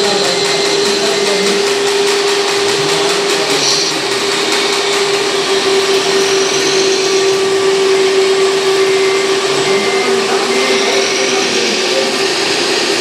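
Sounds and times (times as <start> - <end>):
hydraulic pump whine: 0.0 - 13.0.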